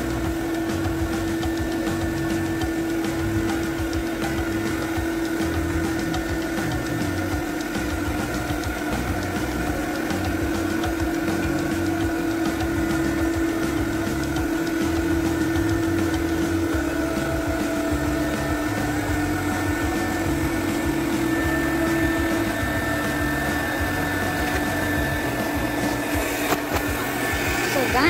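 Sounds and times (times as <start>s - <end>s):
carpet extractor vacuum motor hum: 0.0s - 28.0s.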